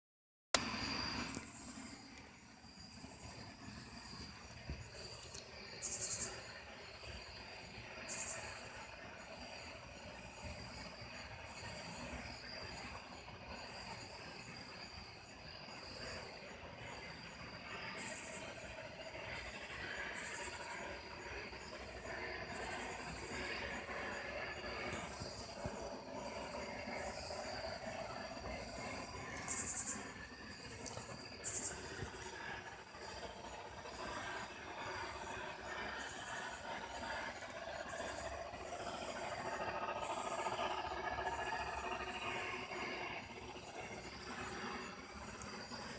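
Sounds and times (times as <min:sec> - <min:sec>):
faint mid-pitched drone: 0:00.6 - 0:45.9
night insects chirring: 0:00.6 - 0:45.9.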